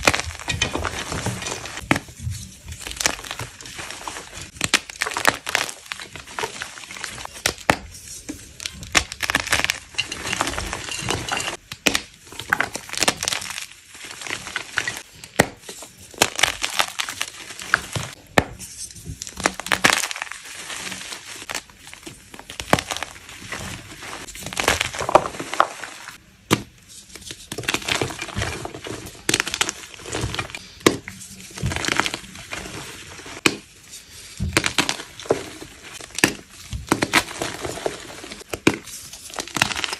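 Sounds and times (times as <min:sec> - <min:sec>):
chalk blocks crunching: 0:00.0 - 0:26.2, 0:26.9 - 0:39.9.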